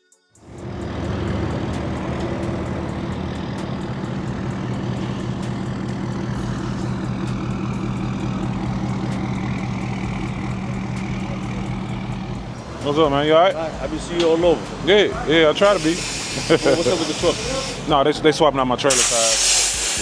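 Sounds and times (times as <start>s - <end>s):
engine ticking: 0.4s - 20.0s
truck engine idling: 0.4s - 20.0s.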